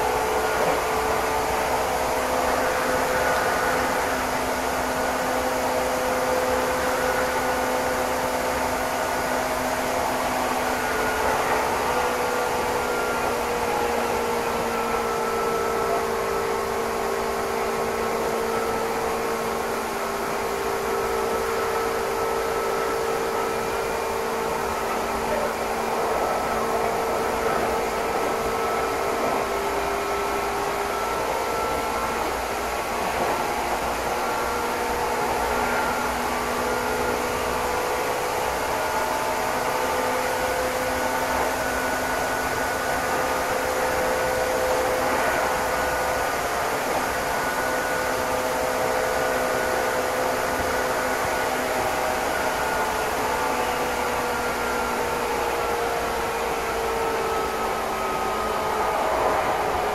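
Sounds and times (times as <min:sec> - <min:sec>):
faint steady hums: 0:00.0 - 0:59.9
train hiss and rumble: 0:00.0 - 0:59.9.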